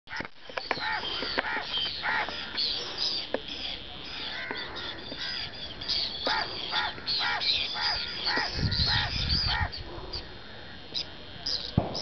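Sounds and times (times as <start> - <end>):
birds harsh repeated calls: 0.1 - 12.0.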